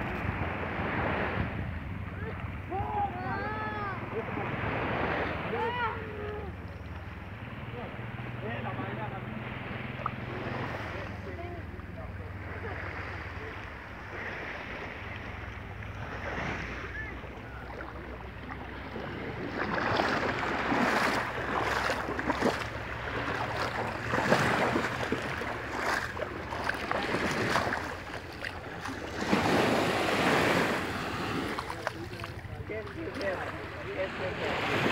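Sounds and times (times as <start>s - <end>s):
waves washing over sand: 0.0s - 34.9s
wind rumble on microphone: 0.0s - 34.9s.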